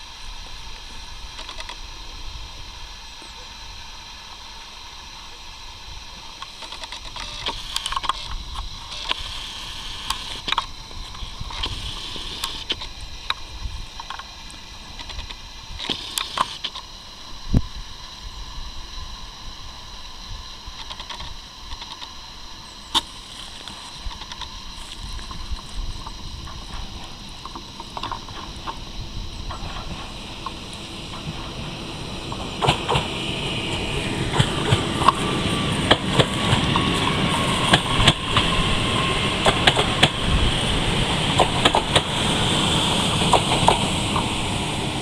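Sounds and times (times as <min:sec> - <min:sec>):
train running hum: 0:00.0 - 0:45.0.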